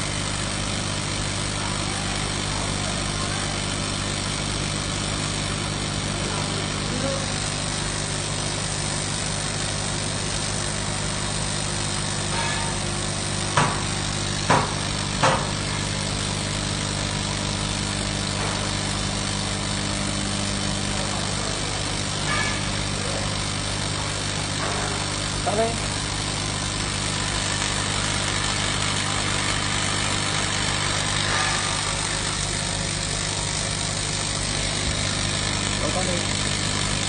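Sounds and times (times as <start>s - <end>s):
welding machine humming: 0.0s - 37.0s.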